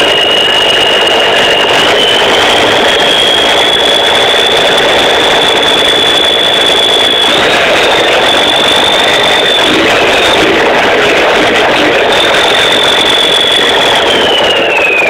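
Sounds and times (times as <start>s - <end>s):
turbocharger whistling: 0.0s - 15.0s
diesel truck engine running: 0.9s - 14.2s.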